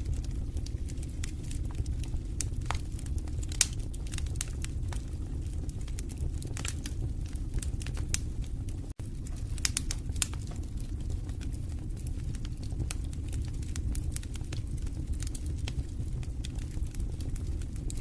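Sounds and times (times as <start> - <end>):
fire crackling and popping: 0.0 - 18.0
fireplace fire burning: 0.0 - 18.0.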